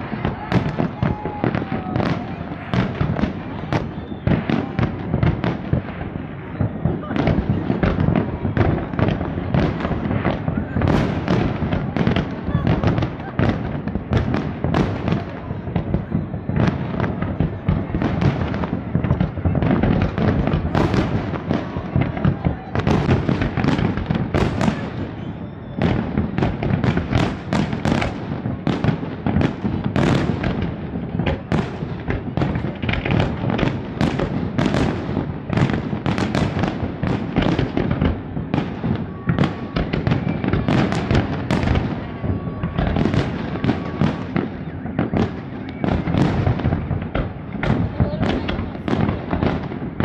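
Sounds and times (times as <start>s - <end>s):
fireworks bangs: 0.0s - 50.0s.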